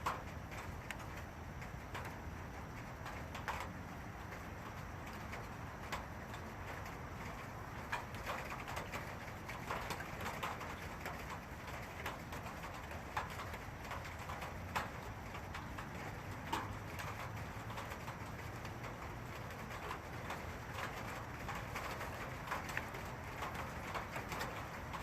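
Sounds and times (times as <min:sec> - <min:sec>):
drops ticking on a surface: 0:00.0 - 0:25.0
steady rain: 0:00.0 - 0:25.0.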